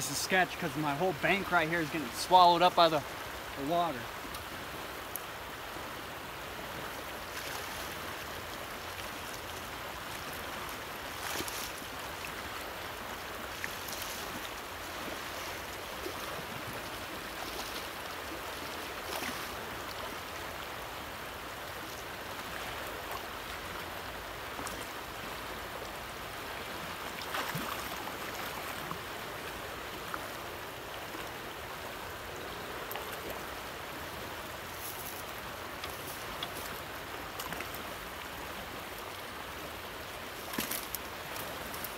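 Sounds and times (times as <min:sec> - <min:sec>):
river current rushing: 0:00.0 - 0:41.9.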